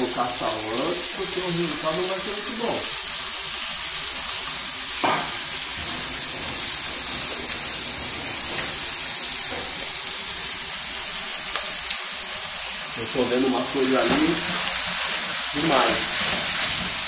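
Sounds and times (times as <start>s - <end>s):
meat sizzling in a pan: 0.0s - 17.0s.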